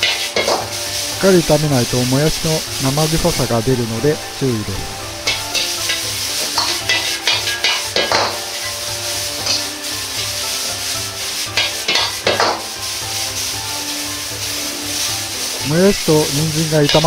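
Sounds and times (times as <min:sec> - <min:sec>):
metal ladle scraping a pan: 0:00.0 - 0:17.0
vegetables sizzling in a wok: 0:00.0 - 0:17.0.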